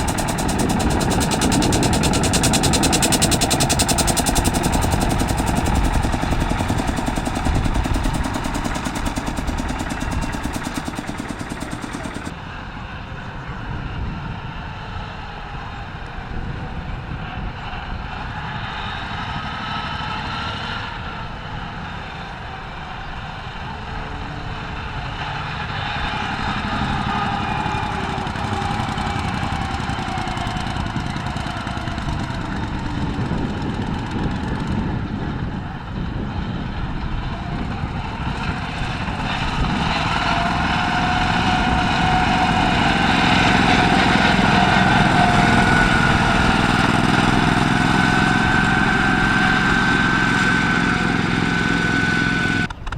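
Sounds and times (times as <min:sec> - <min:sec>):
tractor engine running: 0:00.0 - 0:12.7, 0:19.3 - 0:52.9.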